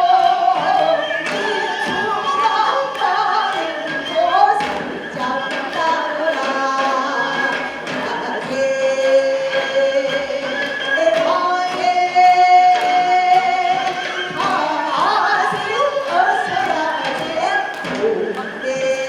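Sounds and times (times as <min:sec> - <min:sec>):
folk singer singing: 0:00.0 - 0:19.0.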